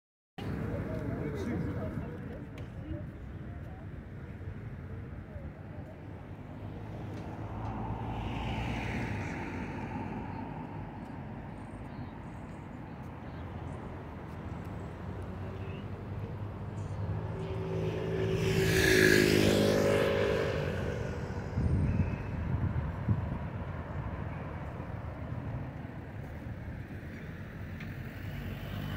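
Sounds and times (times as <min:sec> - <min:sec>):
road vehicles passing by: 0:00.4 - 0:28.9.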